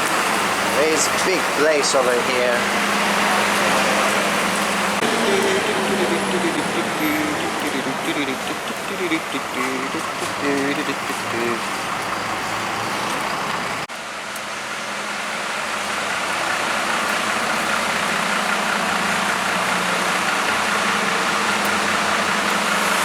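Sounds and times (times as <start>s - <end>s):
bus engine running: 0.0s - 23.0s.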